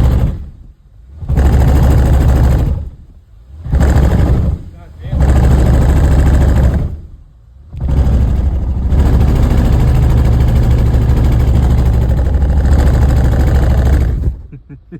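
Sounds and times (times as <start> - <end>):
engine running with rattling pulse: 0.0 - 14.9.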